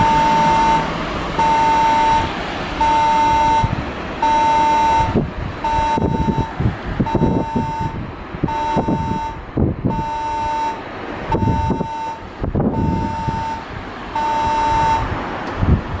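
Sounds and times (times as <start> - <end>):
repeating electronic warning beep: 0.0 - 13.6, 14.2 - 15.1.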